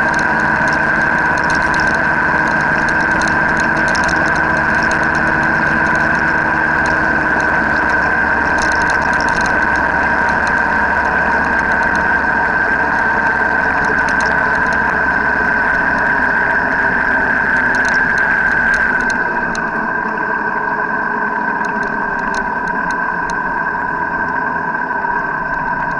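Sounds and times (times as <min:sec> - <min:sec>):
constant high whine: 0:00.0 - 0:25.9
vehicle engine drone: 0:00.0 - 0:25.9.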